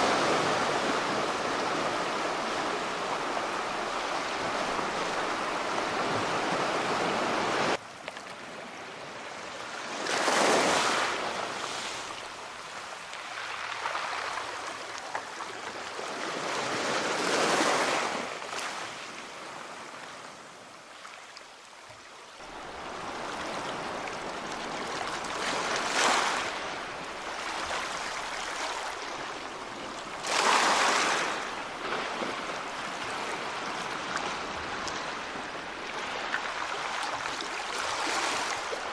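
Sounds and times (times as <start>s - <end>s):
sea waves breaking on shore: 0.0s - 7.8s, 8.4s - 21.4s, 22.4s - 38.9s
rushing water: 0.0s - 16.8s, 20.6s - 38.9s.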